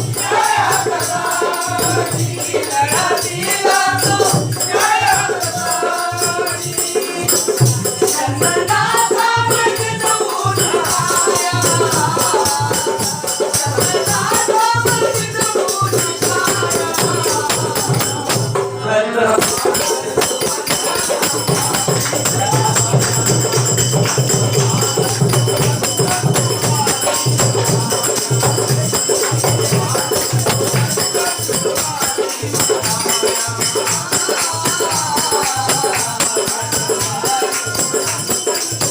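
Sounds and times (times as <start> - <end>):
group singing devotional song: 0.0 - 38.9
jingling tambourine percussion: 0.0 - 38.9.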